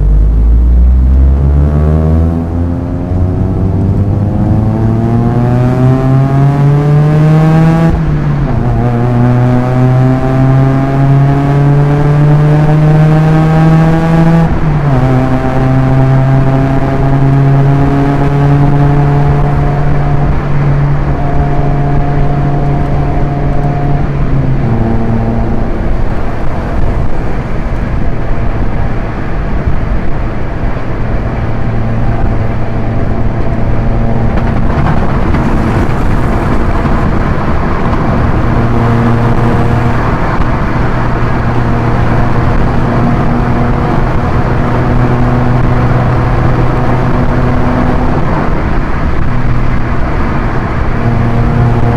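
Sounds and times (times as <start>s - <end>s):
car engine pulling under load: 0.0s - 51.9s
road and wind noise: 0.0s - 51.9s.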